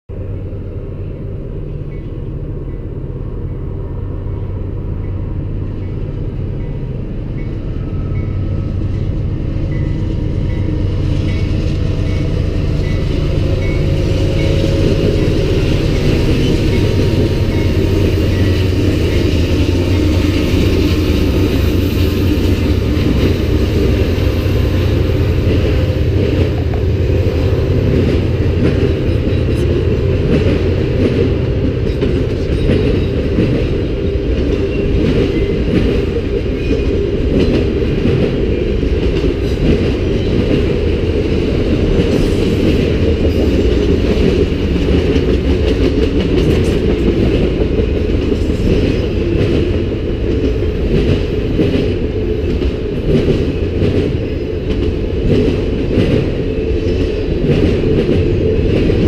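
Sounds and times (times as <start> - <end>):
locomotive engine drone: 0.1 - 59.0.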